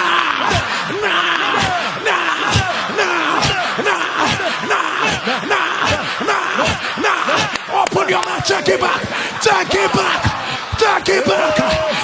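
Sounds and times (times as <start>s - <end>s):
crowd shouting and praying: 0.0s - 12.0s.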